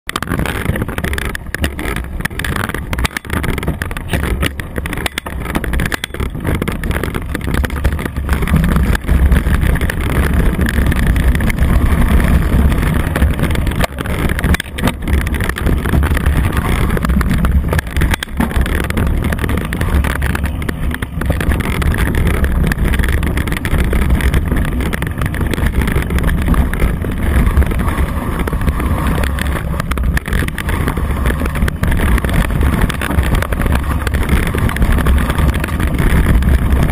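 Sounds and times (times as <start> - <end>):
bike knocks and rattles: 0.1 - 36.9
wind buffeting microphone: 0.1 - 36.9.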